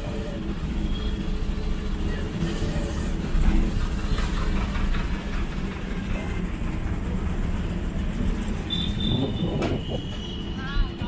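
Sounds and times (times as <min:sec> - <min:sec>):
rattling road noise: 0:00.0 - 0:11.0
vehicle engine rumble: 0:00.0 - 0:11.0.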